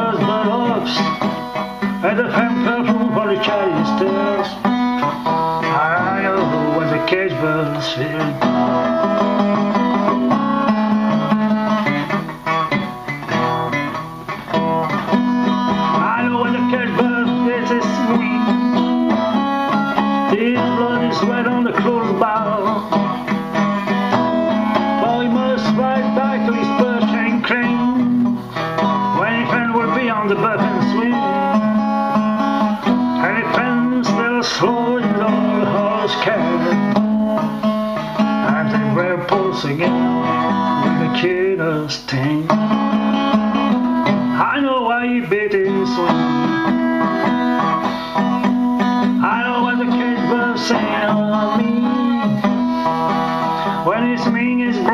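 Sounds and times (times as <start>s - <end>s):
plucked blues guitar: 0.0s - 54.9s.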